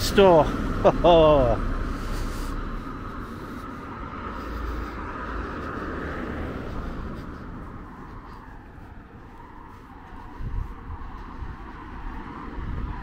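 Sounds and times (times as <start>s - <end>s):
passing vehicle engine and tyres: 0.0s - 13.0s.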